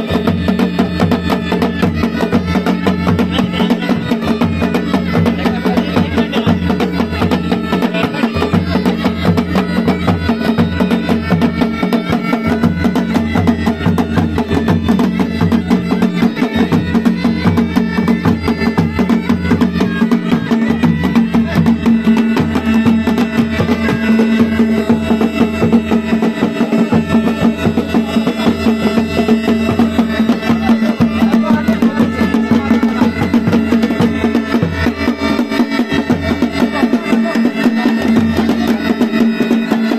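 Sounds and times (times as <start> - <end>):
bagpipe melody over drone: 0.0 - 39.9
drums beating fast rhythm: 0.0 - 39.9.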